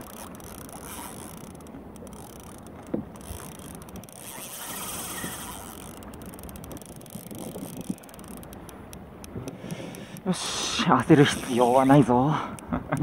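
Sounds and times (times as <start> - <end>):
spinning reel clicking rapidly: 0.0 - 12.6.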